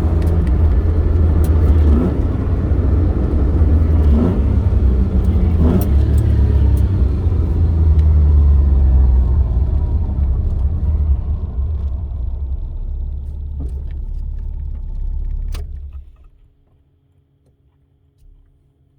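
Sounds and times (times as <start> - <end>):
car engine rumbling: 0.0 - 16.7.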